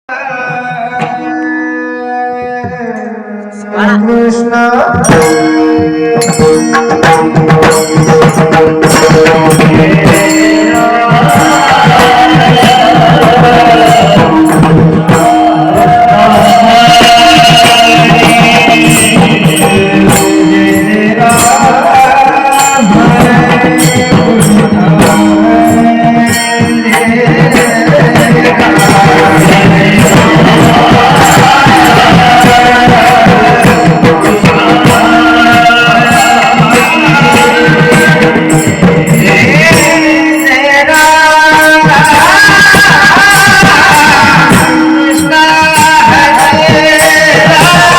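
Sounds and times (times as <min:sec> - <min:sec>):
man singing: 0:00.0 - 0:47.9
drum: 0:00.1 - 0:03.2, 0:03.8 - 0:47.9
hand percussion: 0:00.1 - 0:47.9
held instrumental tones: 0:00.1 - 0:47.9.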